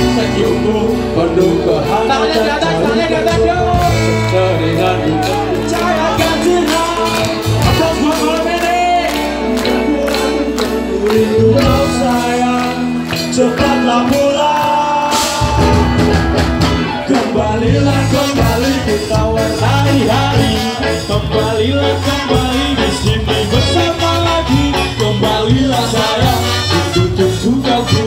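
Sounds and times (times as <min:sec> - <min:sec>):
ska band playing live: 0:00.0 - 0:28.0
steady drum beat: 0:00.0 - 0:28.0.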